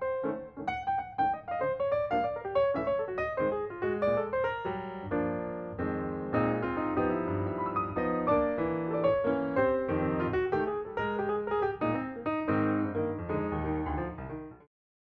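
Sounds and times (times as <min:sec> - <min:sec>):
lively piano tune: 0:00.0 - 0:14.7.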